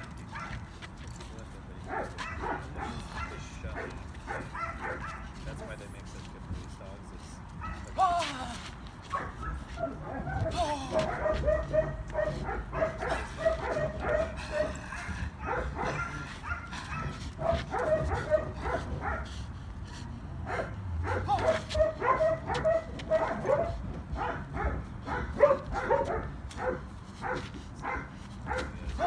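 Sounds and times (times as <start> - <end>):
scuffing clicks: 0.0 - 6.8, 7.5 - 18.8, 21.4 - 29.0.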